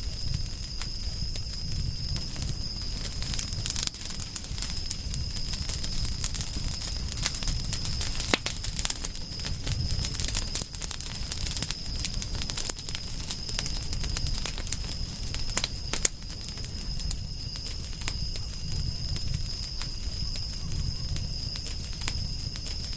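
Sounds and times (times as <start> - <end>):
wood fire crackling: 0.0 - 22.9.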